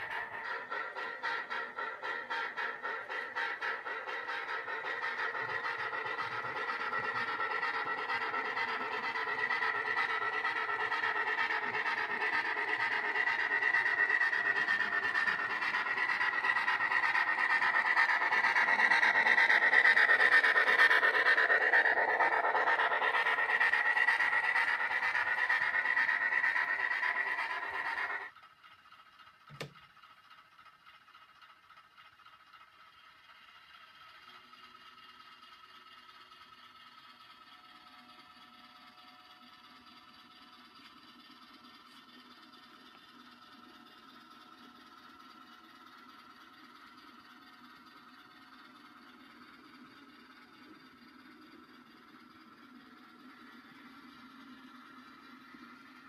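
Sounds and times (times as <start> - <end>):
model train rolling: 0.0 - 56.0.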